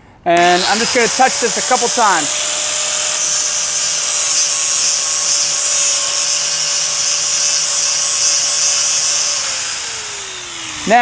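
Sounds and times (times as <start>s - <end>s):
angle grinder grinding plastic pipe: 0.4s - 11.0s.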